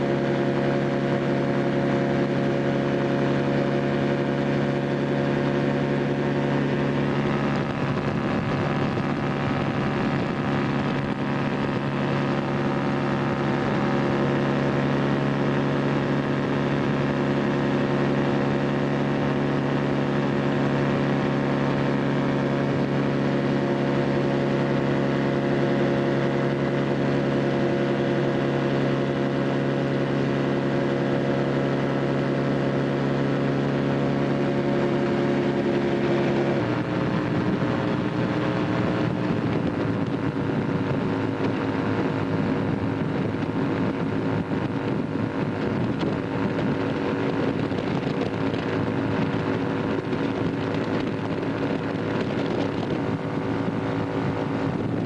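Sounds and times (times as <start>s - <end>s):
rush of rough noise: 0.0s - 55.0s
ultralight aircraft engine: 0.0s - 55.0s.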